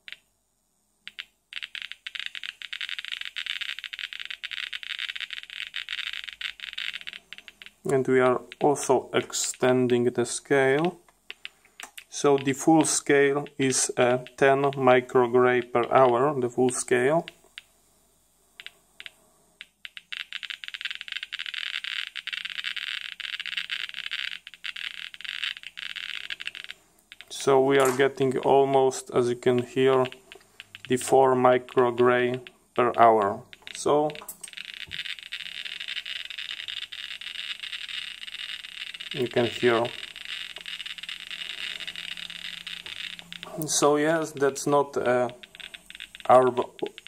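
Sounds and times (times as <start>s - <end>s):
geiger counter clicking: 0.0s - 0.3s, 1.0s - 17.7s, 18.6s - 47.0s.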